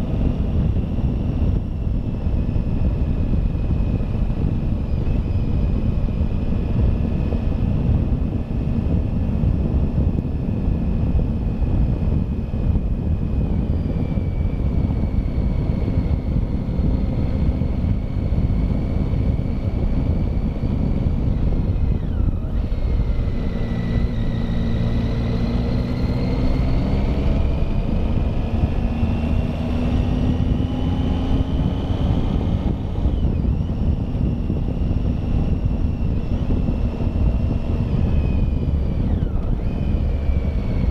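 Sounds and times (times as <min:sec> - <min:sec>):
motorcycle engine: 0:00.0 - 0:40.9
wind noise on microphone: 0:00.0 - 0:40.9.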